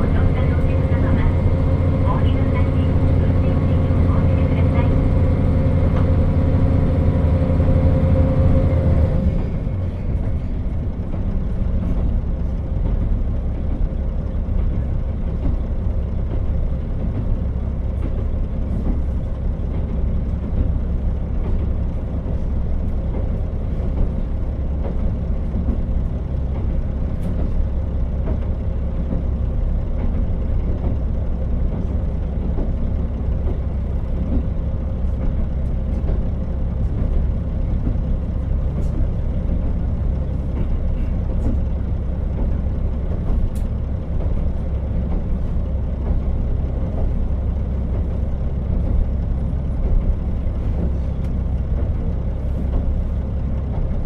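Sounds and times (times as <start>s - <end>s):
diesel railcar engine rumble: 0.0s - 54.0s.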